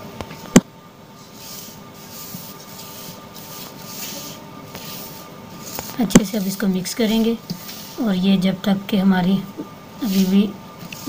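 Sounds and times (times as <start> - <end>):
hand rubbing mixture in steel bowl: 1.2 - 11.0.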